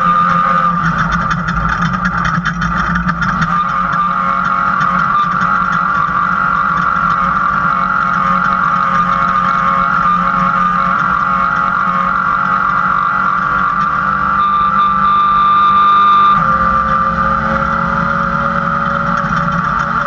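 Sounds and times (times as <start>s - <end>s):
higher whine: 0.0s - 20.0s
steady high whine: 0.0s - 20.0s
truck engine running hard: 0.0s - 20.0s.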